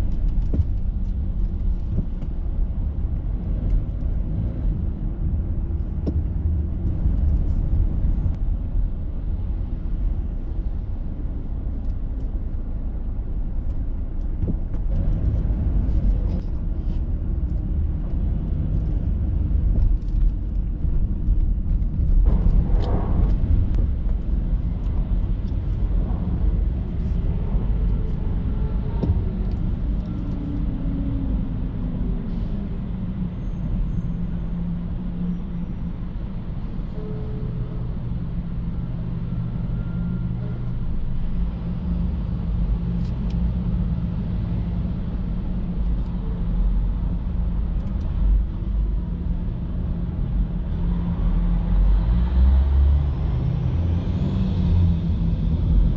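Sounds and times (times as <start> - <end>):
traffic rumble: 0.0 - 55.9.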